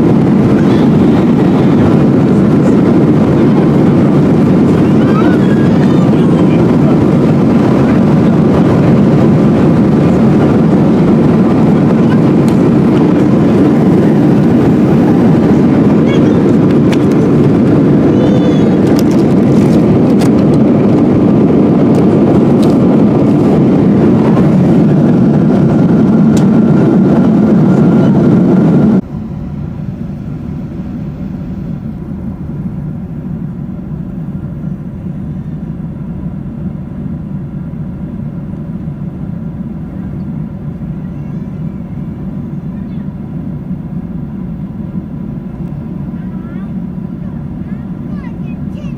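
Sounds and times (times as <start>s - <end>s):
airliner cabin noise: 0.0s - 48.9s.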